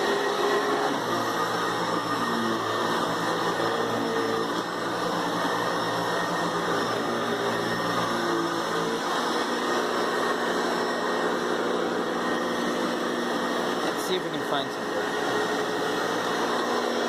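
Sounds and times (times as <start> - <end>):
upright vacuum cleaner running: 0.0 - 17.0.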